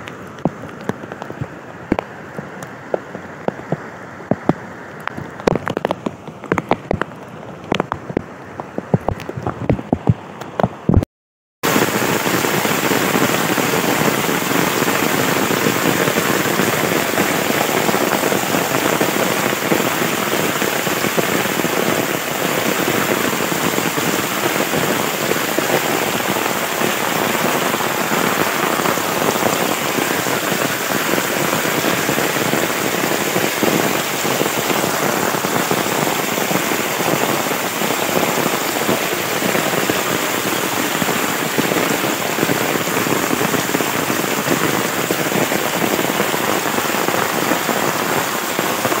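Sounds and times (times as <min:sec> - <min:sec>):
heavy rain: 0:00.0 - 0:11.0, 0:11.6 - 0:49.0
rainwater rushing along a channel: 0:00.0 - 0:49.0.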